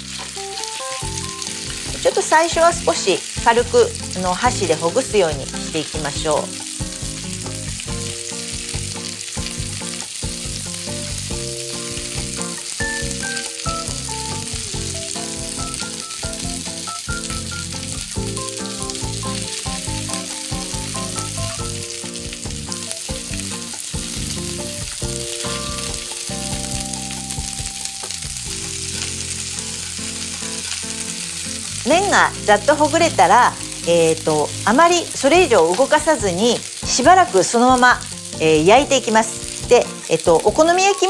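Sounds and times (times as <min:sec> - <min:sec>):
soft melody: 0:00.0 - 0:02.4, 0:04.0 - 0:39.8
noodles sizzling in oil: 0:00.0 - 0:41.0.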